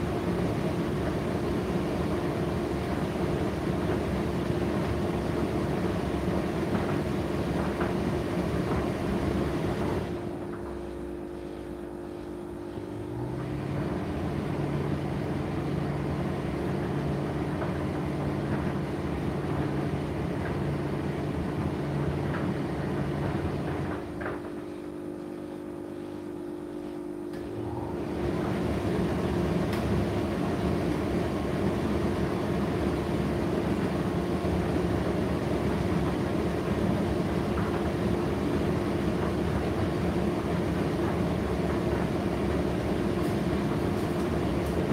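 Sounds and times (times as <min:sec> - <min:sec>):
tumble dryer running: 0:00.0 - 0:44.9.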